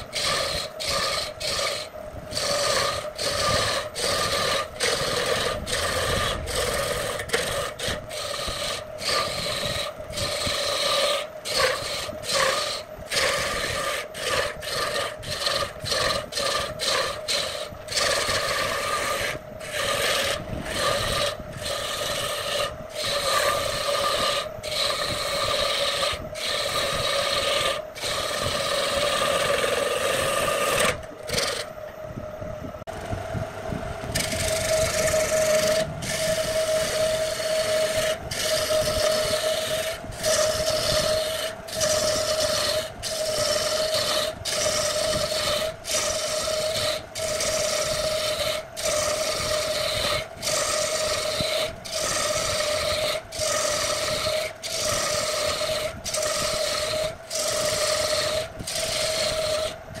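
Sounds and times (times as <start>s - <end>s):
gouge scraping spinning wood: 0.0s - 32.0s, 34.0s - 60.0s
wood lathe humming: 0.0s - 32.0s, 32.8s - 60.0s.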